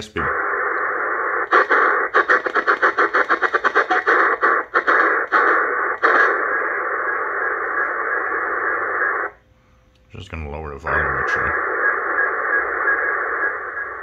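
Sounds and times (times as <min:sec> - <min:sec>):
choppy radio hiss while tuning: 0:00.0 - 0:09.4, 0:10.0 - 0:14.0
radio data signal: 0:00.0 - 0:09.4, 0:10.3 - 0:14.0.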